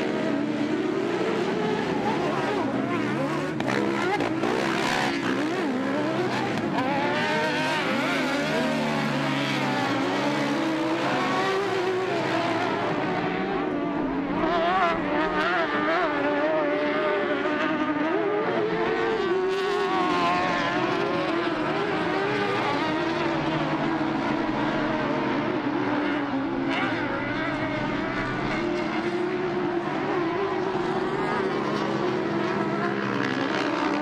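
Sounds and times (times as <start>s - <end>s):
racing engines revving: 0.0s - 34.0s.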